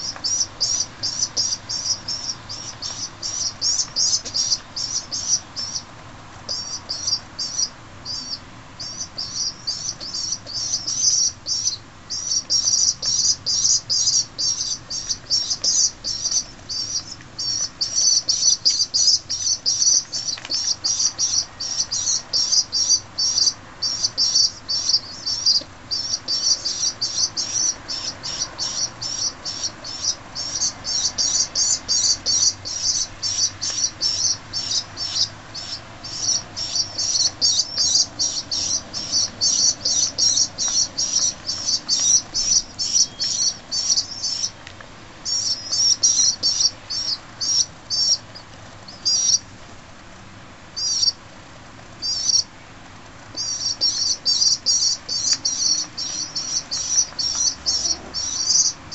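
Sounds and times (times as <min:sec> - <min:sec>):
young pigeons peeping: 0:00.0 - 0:50.0, 0:50.6 - 0:58.9.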